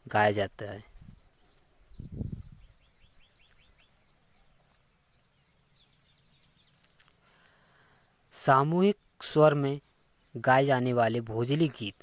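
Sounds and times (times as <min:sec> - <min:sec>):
faint bird chirps: 0:00.7 - 0:12.0.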